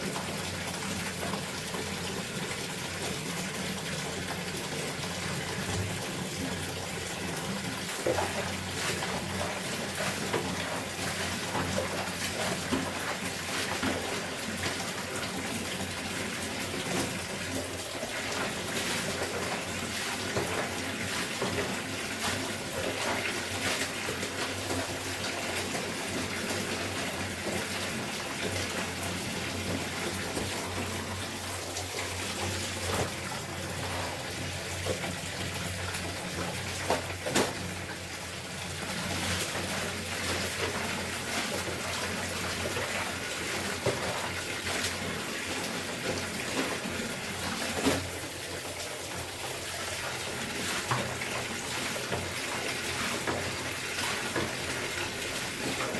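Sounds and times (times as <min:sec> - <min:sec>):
water running and splashing: 0:00.0 - 0:55.9.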